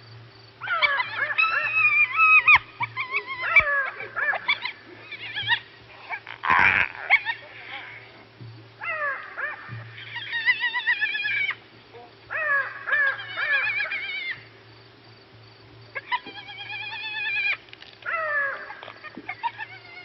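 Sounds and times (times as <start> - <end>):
hyena cub whining: 0.6 - 8.2, 8.8 - 11.6, 12.3 - 14.6, 15.9 - 20.0.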